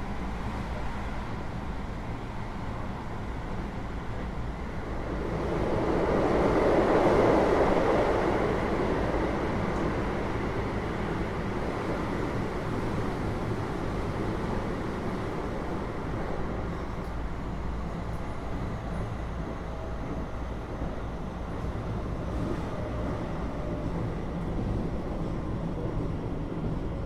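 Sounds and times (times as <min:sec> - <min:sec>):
train interior hum and rumble: 0:00.0 - 0:27.0.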